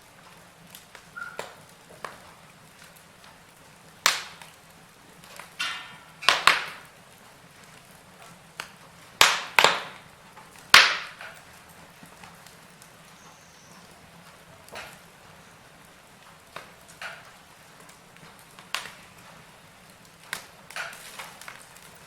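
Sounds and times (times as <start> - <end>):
firewood crackling: 0.0 - 22.0
fire pops and snaps: 0.1 - 22.0.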